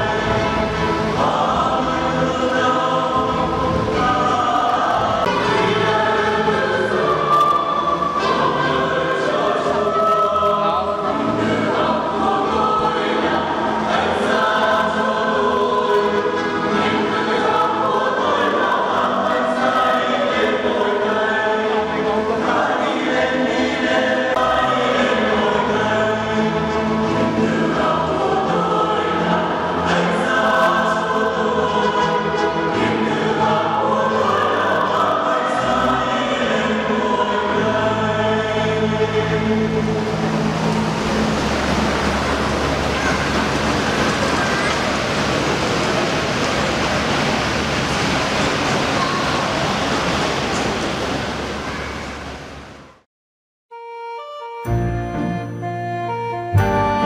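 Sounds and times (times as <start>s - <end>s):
choir singing a hymn: 0.0s - 52.5s.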